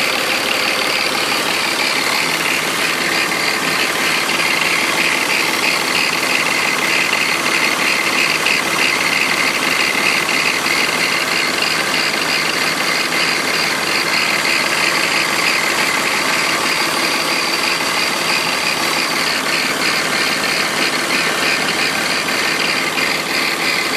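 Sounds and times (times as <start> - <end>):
car engine running: 0.0 - 23.9
strange engine noise: 0.0 - 23.9.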